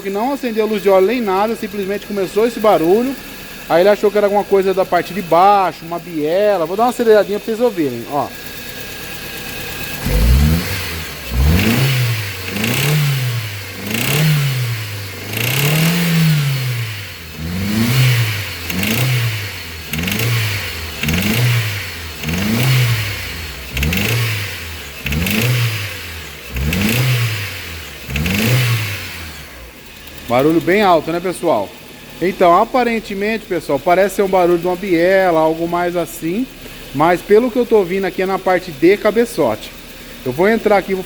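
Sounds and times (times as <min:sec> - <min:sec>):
car engine revving: 0:00.0 - 0:41.0
engine knocking: 0:00.0 - 0:41.0.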